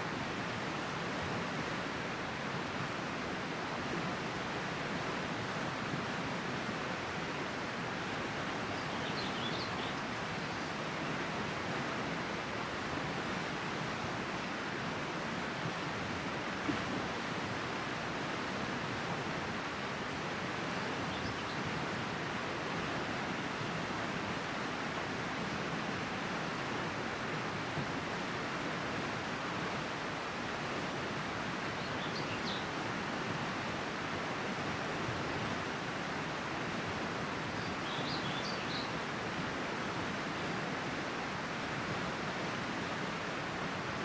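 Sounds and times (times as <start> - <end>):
river water rushing: 0.0 - 44.0.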